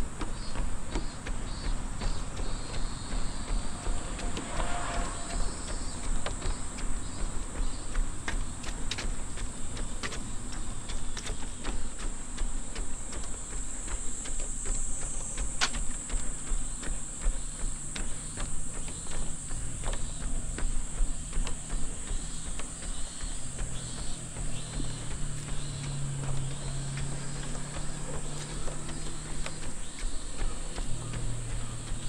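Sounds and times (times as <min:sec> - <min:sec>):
insects droning: 0:00.0 - 0:32.0
running footsteps on dirt: 0:00.0 - 0:32.0.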